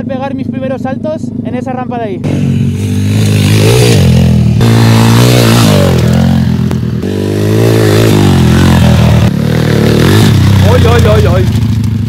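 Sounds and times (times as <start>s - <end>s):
motorbike engine revving: 2.2s - 12.0s.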